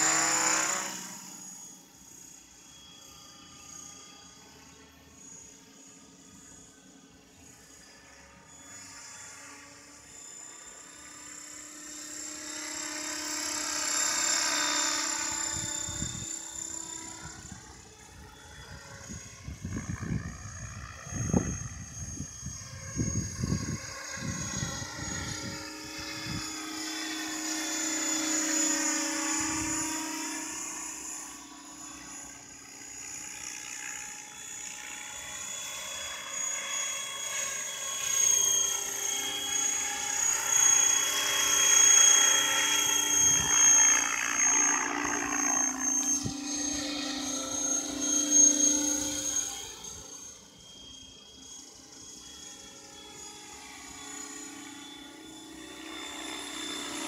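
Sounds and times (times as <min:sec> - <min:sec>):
model helicopter rotor whine: 0:00.0 - 0:57.0.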